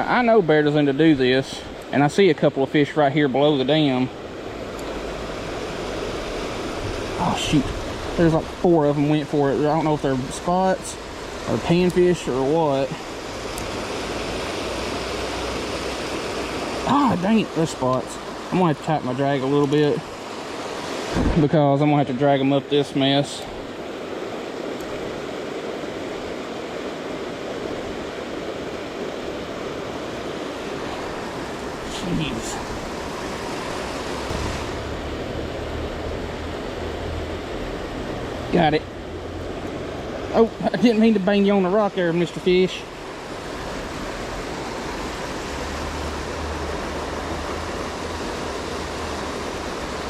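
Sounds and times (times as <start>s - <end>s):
water rushing over dam: 0.0s - 50.0s.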